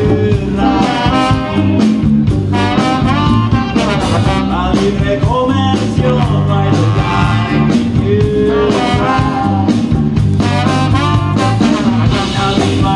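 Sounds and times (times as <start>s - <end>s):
saxophone and trombone melody: 0.0s - 12.9s
steady bass line: 0.0s - 12.9s.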